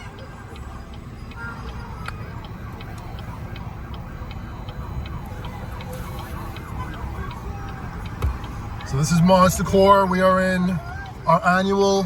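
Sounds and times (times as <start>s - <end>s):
steady ticking: 0.0s - 12.0s
truck engine rumbling: 0.0s - 12.0s.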